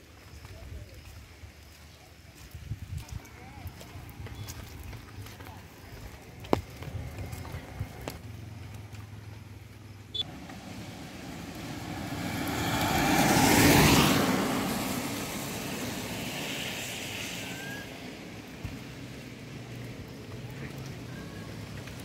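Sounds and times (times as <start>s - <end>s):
vehicle tyres on wet road: 0.0s - 22.0s.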